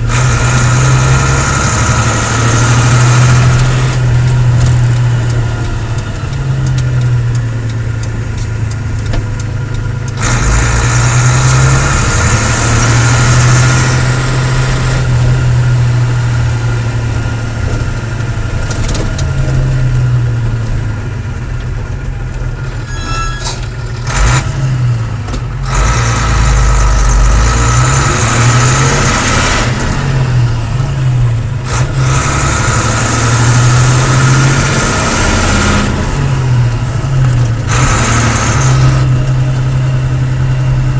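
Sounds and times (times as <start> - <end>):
diesel lorry engine revving: 0.0 - 40.9.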